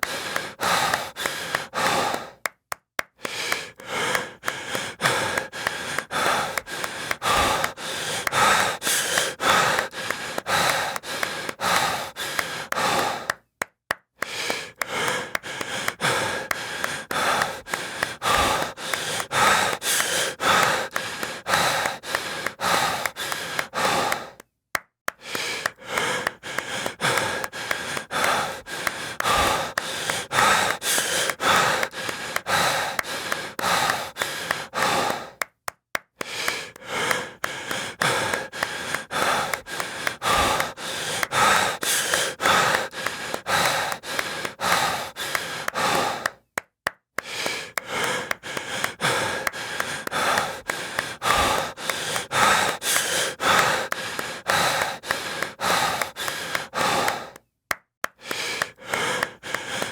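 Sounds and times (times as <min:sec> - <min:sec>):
heavy breathing: 0:00.0 - 0:02.5, 0:03.2 - 0:13.5, 0:14.2 - 0:24.5, 0:25.1 - 0:35.6, 0:36.2 - 0:46.5, 0:47.2 - 0:59.9
sharp hand claps: 0:00.0 - 0:59.9.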